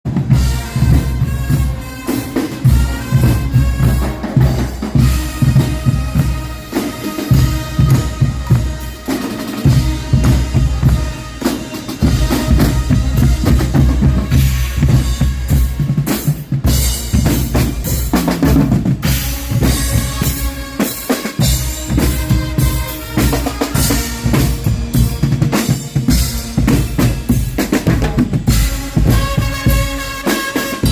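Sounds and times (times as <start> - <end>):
bass drum and snare beats: 0.0 - 30.9
brass band playing: 0.1 - 30.9.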